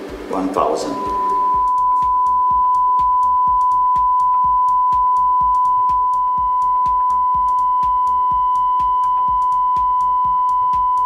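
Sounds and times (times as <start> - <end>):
steady sine test tone: 0.0 - 11.0.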